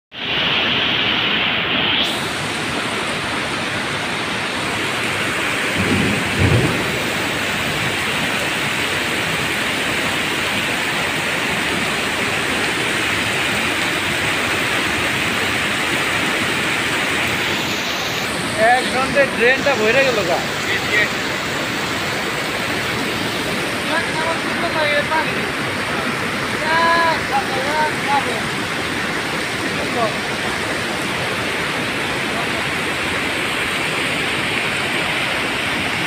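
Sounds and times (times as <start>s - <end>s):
heavy rain pouring: 0.1s - 36.0s
water gushing from drain pipes: 2.0s - 36.0s.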